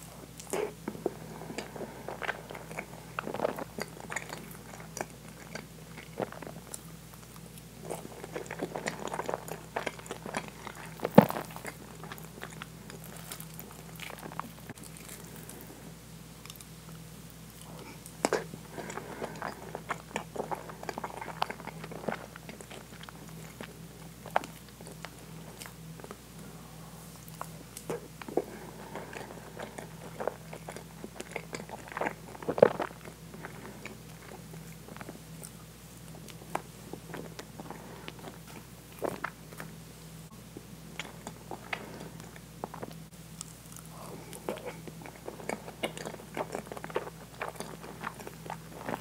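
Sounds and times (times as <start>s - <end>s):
wet chewing mouth sounds: 0.0s - 15.8s, 16.4s - 39.8s, 40.6s - 49.0s.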